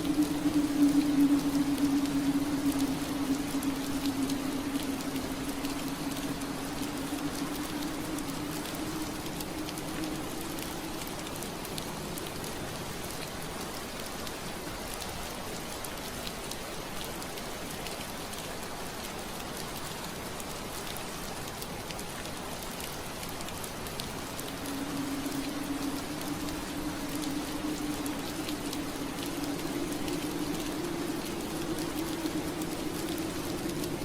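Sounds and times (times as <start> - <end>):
rain pattering on window glass: 0.0 - 34.0.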